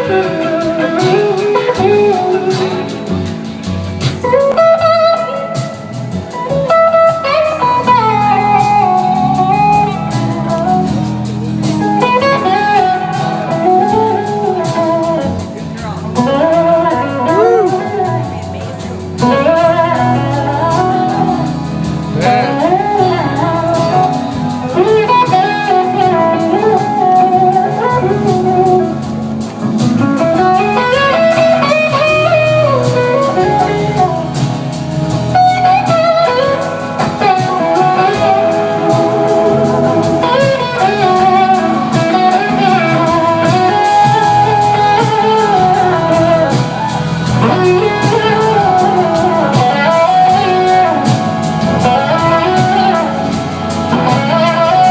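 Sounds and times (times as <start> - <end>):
electric slide guitar solo: 0.0 - 54.9
low musical backing: 0.0 - 54.9.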